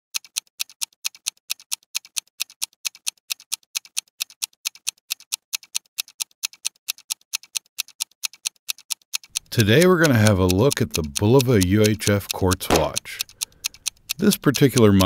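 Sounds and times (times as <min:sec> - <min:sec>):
clock ticking: 0:00.2 - 0:15.0.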